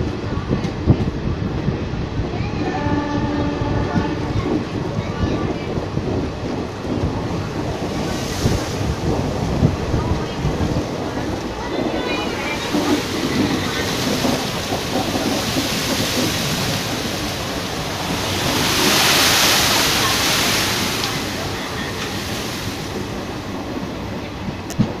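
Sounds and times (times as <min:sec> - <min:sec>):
moving train rushing: 0:00.0 - 0:25.0
wind: 0:00.0 - 0:25.0.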